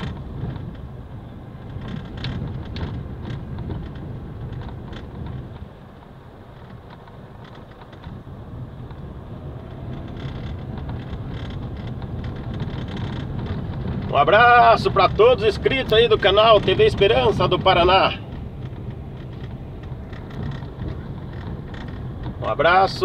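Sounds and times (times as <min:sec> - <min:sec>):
vehicle rumbling on dirt road: 0:00.0 - 0:23.0
knocks and rattles: 0:01.6 - 0:22.6.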